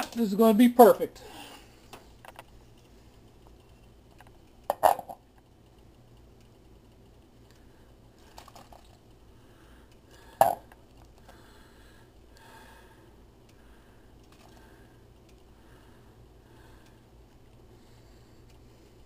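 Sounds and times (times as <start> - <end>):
faint room noise: 0.0 - 19.0.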